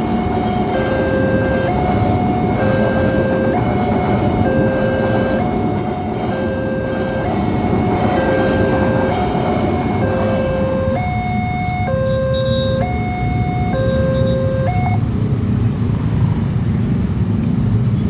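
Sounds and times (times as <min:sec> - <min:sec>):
level crossing two-tone alarm: 0:00.0 - 0:15.0
passing train rumble: 0:00.0 - 0:18.0.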